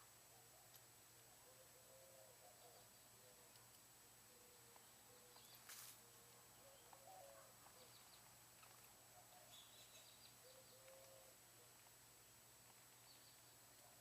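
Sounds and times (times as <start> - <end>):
soft hiss: 0.0 - 14.0
faint bird chirps: 0.3 - 14.0.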